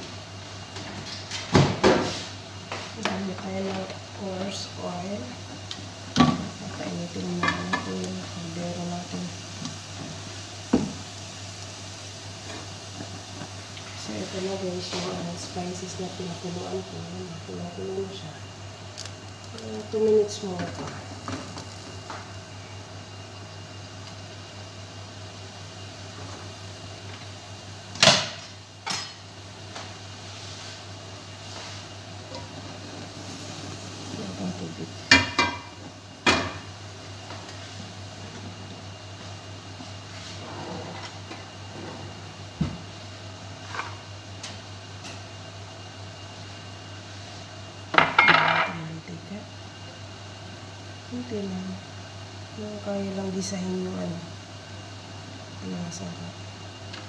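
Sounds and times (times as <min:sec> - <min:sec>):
gas stove burner hissing: 0:00.0 - 0:57.0.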